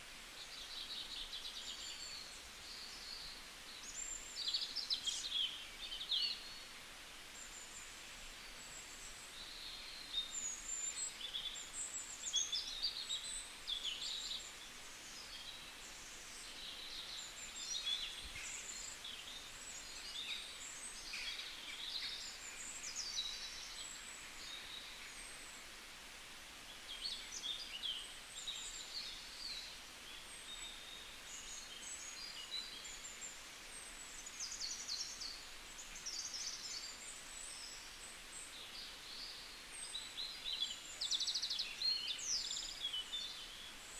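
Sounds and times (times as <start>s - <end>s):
faint steady hiss: 0.0s - 43.9s
small birds chirping: 0.0s - 43.9s.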